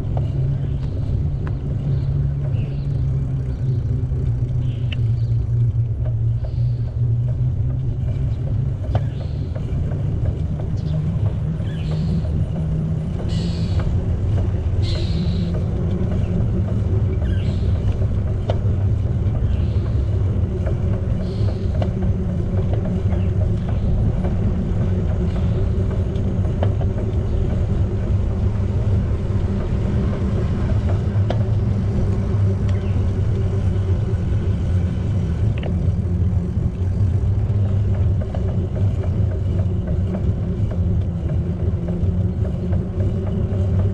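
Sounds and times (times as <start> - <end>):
bicycle tyres humming: 0.0 - 43.9.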